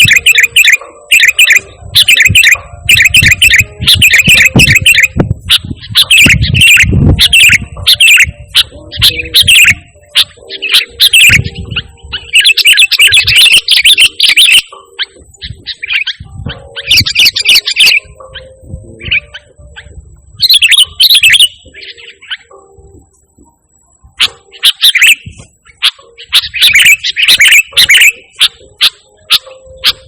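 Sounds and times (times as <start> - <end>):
bird singing chirping notes: 0.0 - 30.0.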